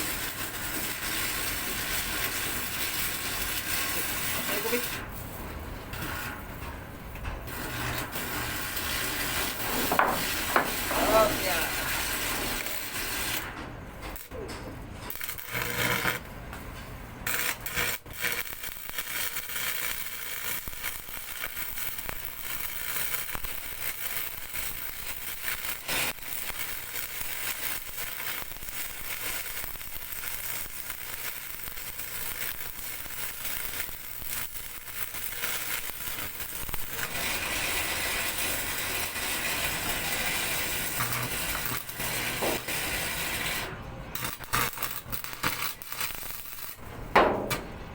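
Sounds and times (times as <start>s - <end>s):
welding arc crackling: 0.0s - 47.7s.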